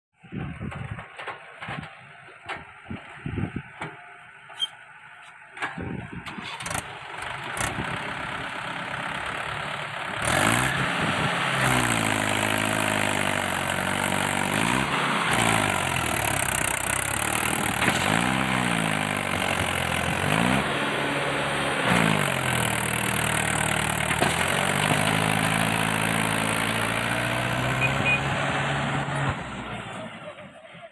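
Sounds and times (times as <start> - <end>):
excavator diesel engine revving: 4.5 - 30.9.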